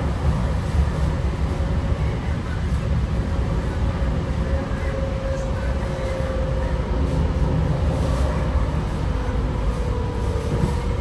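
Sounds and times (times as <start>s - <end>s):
wheels rumbling on track: 0.0s - 11.0s.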